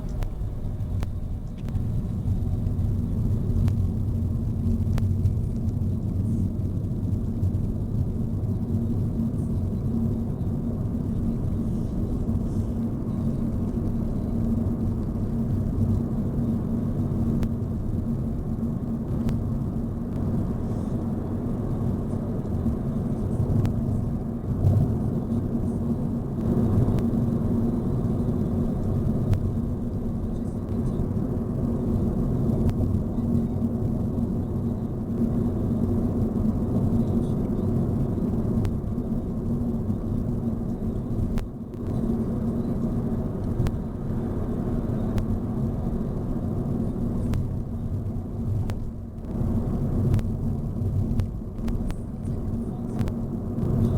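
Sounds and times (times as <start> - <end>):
car interior rumble: 0.0 - 53.9.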